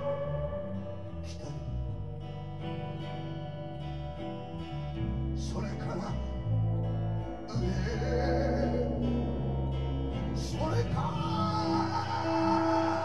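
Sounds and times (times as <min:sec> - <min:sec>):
guitar: 0:00.0 - 0:13.0
low held bass notes: 0:00.0 - 0:13.0.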